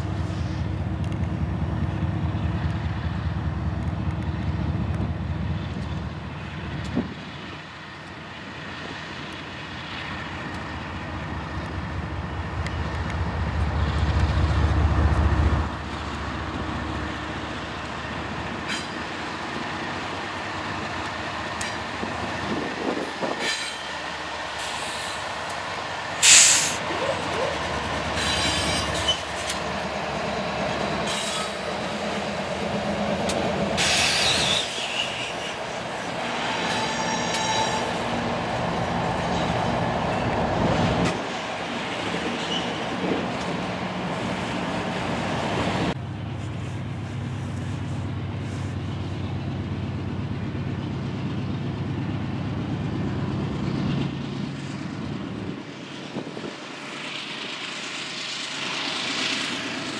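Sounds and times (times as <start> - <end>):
diesel locomotive engines rumbling: 0.0 - 59.9
rolling tank cars: 0.0 - 59.9.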